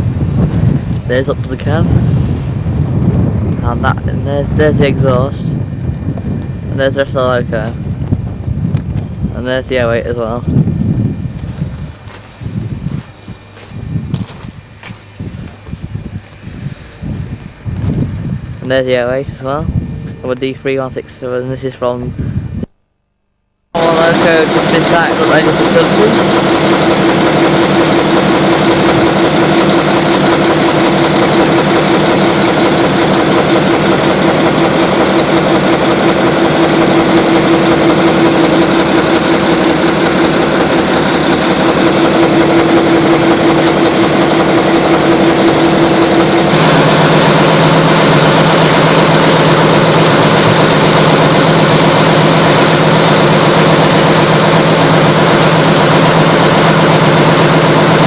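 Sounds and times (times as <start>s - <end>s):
diesel engine idling: 0.0s - 22.5s, 23.8s - 58.0s.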